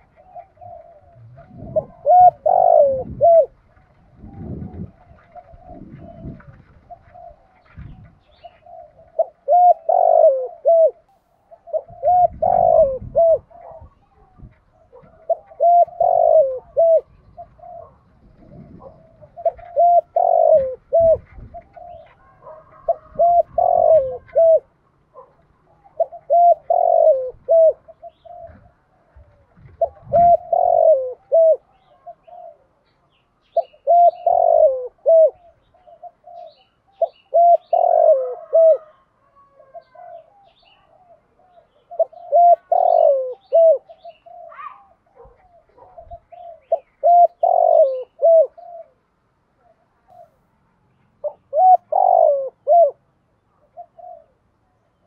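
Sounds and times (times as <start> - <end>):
small birds chirping: 0.0 - 38.2, 38.8 - 55.0
dove cooing: 0.0 - 50.4, 51.2 - 55.0.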